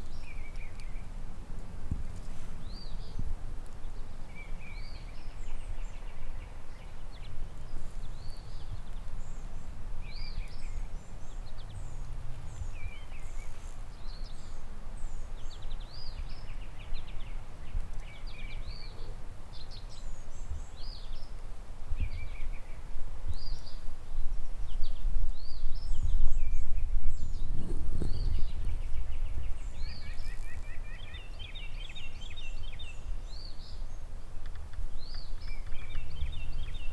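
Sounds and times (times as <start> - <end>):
songbirds chirping and trilling: 0.0 - 36.9.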